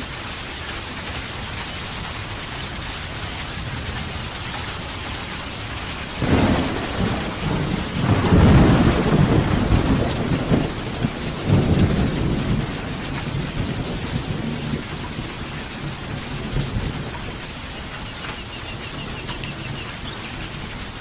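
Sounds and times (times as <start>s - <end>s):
steady rain falling: 0.0s - 21.0s
thunderclap and rumbling thunder: 3.5s - 21.0s.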